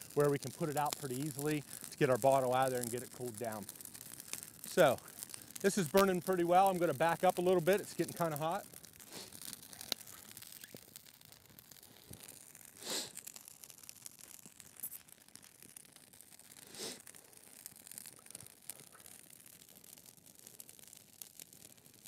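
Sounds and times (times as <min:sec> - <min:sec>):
twig fire crackling: 0:00.0 - 0:22.0.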